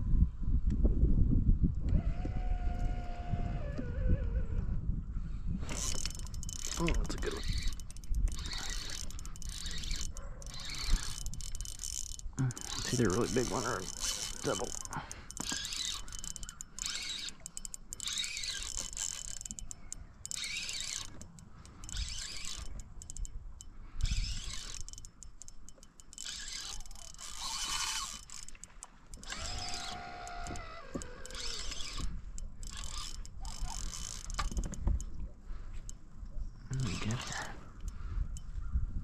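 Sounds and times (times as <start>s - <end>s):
fishing reel clicking and ratcheting: 1.9s - 4.5s, 5.6s - 35.2s, 36.7s - 38.6s.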